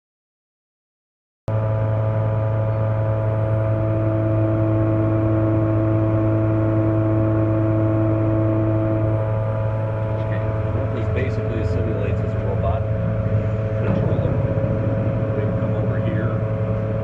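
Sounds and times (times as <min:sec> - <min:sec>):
welding machine humming: 0:01.6 - 0:17.0.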